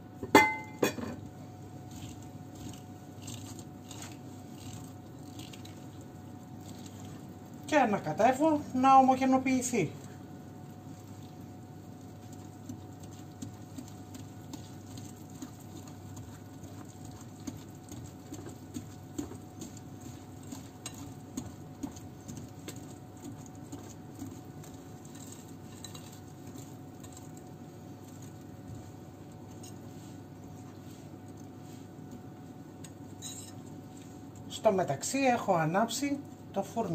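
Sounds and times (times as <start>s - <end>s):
whisk beating batter in glass bowl: 1.6s - 9.9s, 10.7s - 36.0s.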